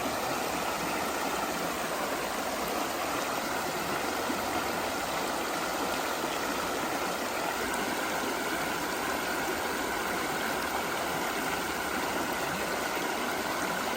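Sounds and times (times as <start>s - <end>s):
water rushing over rocks: 0.0s - 13.9s.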